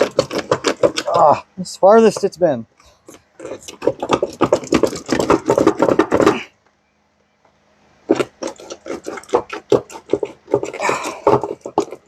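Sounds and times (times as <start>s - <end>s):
hand tools clicking and clattering: 0.0s - 1.4s, 2.0s - 6.5s, 8.1s - 12.0s.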